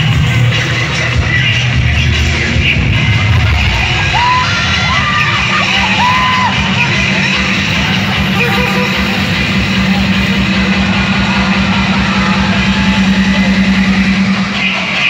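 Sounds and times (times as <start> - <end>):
dance music over loudspeakers: 0.0 - 15.0.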